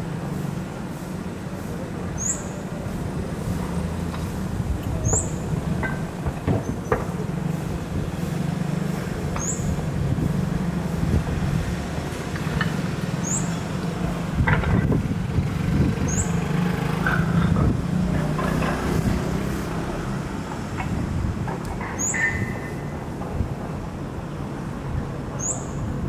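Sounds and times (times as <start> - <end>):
cars driving past: 2.9 - 26.0.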